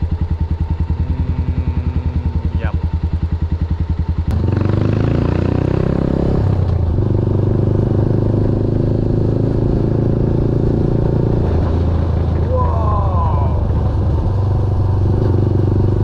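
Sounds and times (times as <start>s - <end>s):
motorcycle engine: 0.0s - 16.0s.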